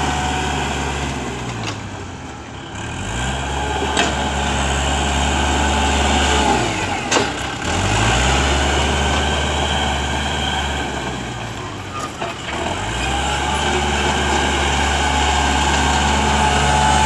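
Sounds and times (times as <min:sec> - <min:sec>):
dozer blade pushing soil: 0:00.0 - 0:17.0
tractor diesel engine under load: 0:00.0 - 0:17.0.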